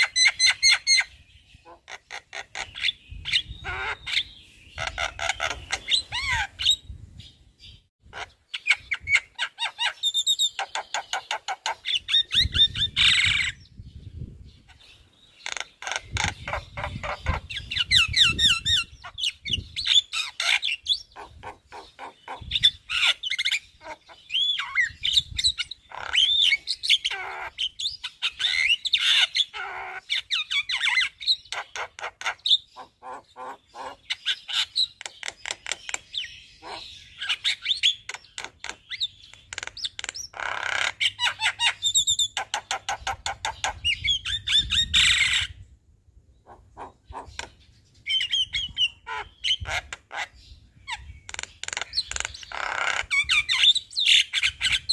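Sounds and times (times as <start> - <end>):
myna bird singing: 0.0 - 54.9.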